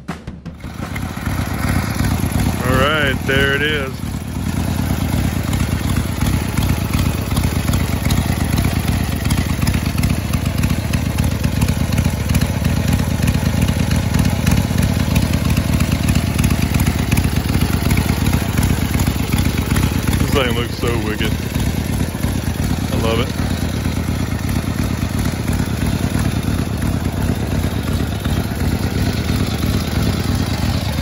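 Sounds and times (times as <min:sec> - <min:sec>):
motorcycle engine idling loudly: 0:00.4 - 0:31.0.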